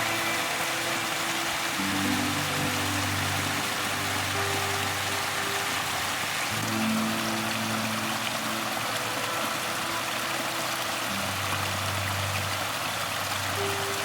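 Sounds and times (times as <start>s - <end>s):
heavy rain hiss: 0.0s - 14.0s
soft background music: 0.0s - 14.0s.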